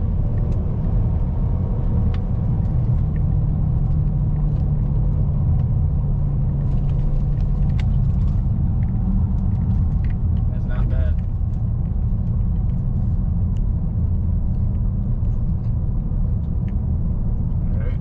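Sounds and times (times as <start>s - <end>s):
road rumble: 0.0s - 18.0s.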